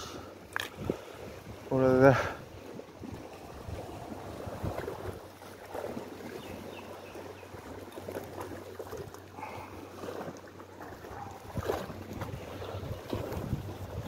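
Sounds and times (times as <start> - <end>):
small waves lapping against rocks: 0.0 - 14.0.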